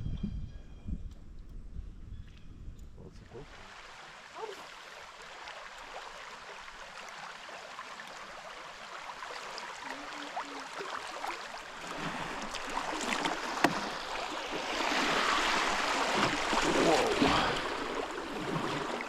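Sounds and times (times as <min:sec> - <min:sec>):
river water splashing: 0:03.4 - 0:19.0.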